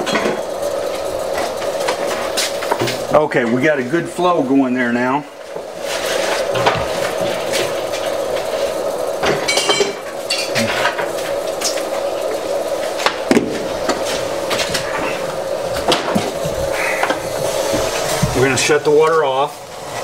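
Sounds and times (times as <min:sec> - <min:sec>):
water flowing through hose: 0:00.0 - 0:20.0.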